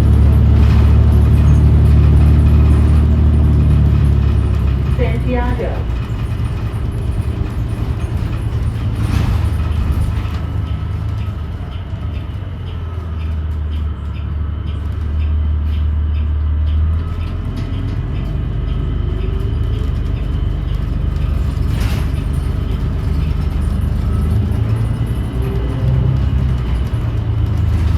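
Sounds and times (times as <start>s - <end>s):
bus drivetrain drone: 0.0s - 27.9s.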